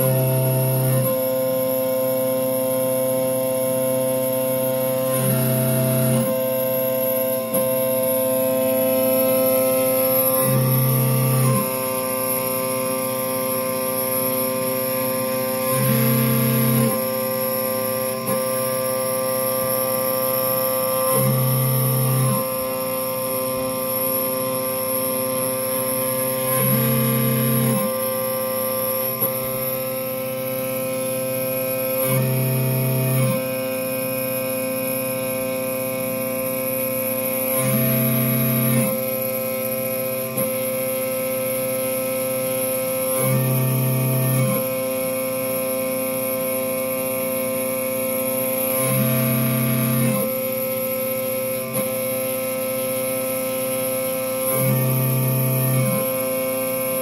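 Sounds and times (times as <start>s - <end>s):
mill machine whine: 0.0s - 57.0s.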